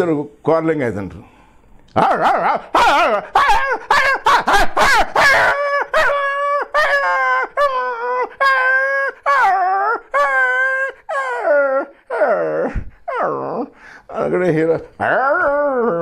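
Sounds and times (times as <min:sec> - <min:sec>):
man imitating dog howls: 0:02.0 - 0:16.0.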